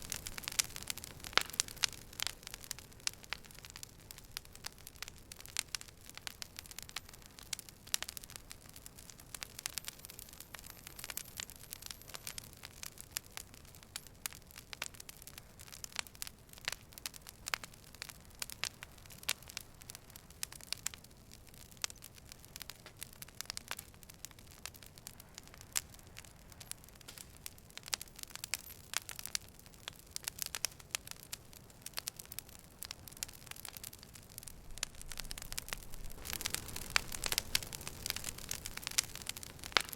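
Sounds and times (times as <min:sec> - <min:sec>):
campfire crackling and popping: 0:00.0 - 0:39.9
hiss of burning: 0:00.0 - 0:39.9.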